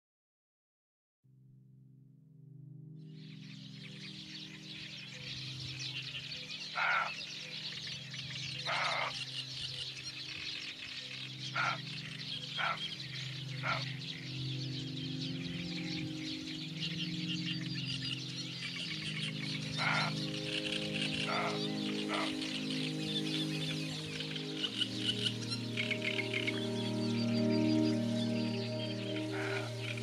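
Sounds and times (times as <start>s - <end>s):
soft ambient music: 1.5s - 30.0s
birds twittering: 3.1s - 30.0s
loud bird calls: 3.8s - 30.0s.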